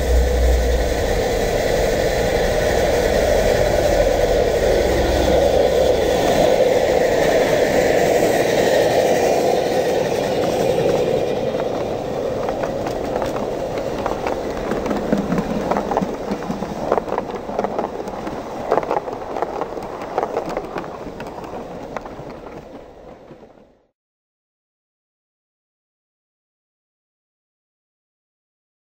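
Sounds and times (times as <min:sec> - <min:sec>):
steam exhaust hissing: 0:00.0 - 0:23.6
wheels clicking over track: 0:00.0 - 0:23.9.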